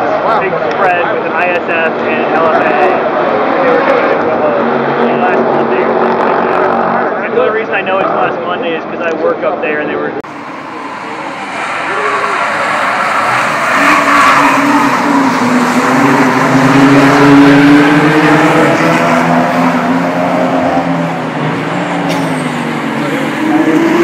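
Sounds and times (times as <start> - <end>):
race car engines accelerating: 0.0 - 24.0.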